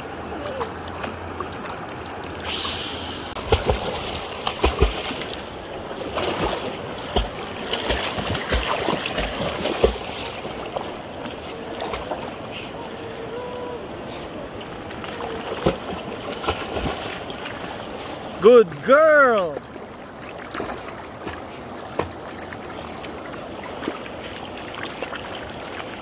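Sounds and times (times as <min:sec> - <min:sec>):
river water rushing and splashing: 0:00.0 - 0:26.0.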